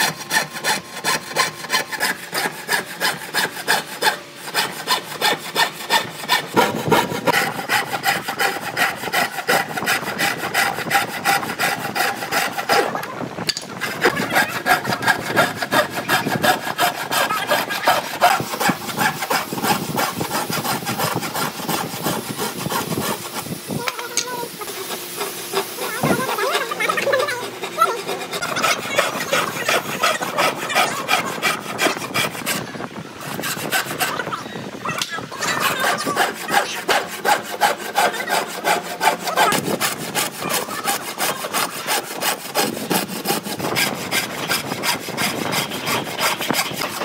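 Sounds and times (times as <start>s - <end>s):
scroll saw cutting wood: 0.0s - 47.0s.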